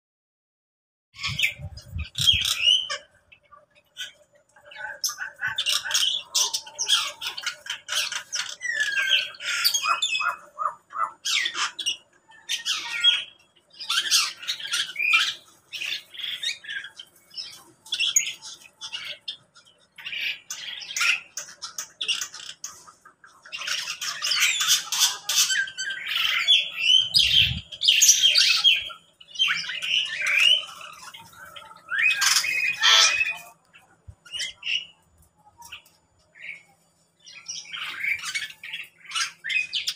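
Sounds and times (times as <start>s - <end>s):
birds squawking and chirping: 1.2s - 39.9s.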